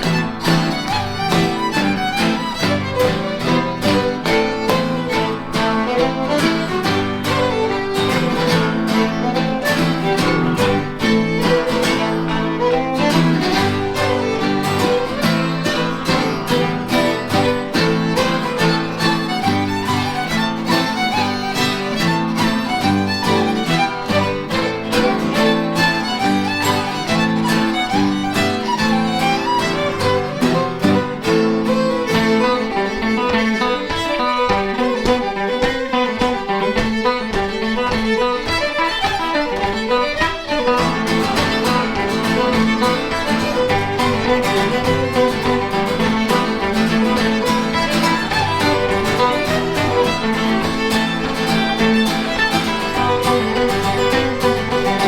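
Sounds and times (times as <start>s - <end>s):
electric guitar: 0.0s - 55.0s
fiddle playing dance tune: 0.0s - 55.0s.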